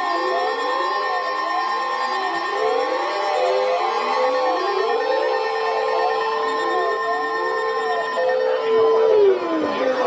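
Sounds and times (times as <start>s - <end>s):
alarm tone sliding in pitch: 0.0s - 10.0s
lower steady alarm tone: 0.0s - 10.0s.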